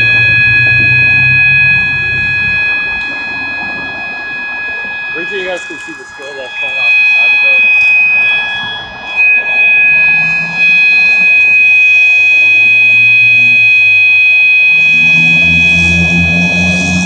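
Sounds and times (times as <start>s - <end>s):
fire alarm horn steady tone: 0.0s - 17.0s
low drone: 0.0s - 17.0s.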